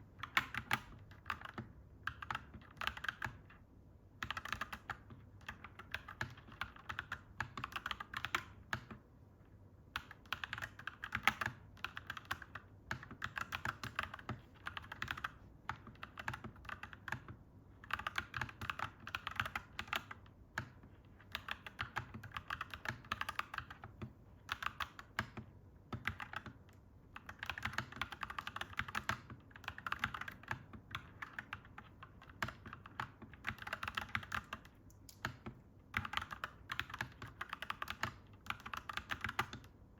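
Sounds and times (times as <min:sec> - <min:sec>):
mechanical keyboard typing: 0:00.2 - 0:03.6, 0:04.2 - 0:09.0, 0:09.9 - 0:39.8.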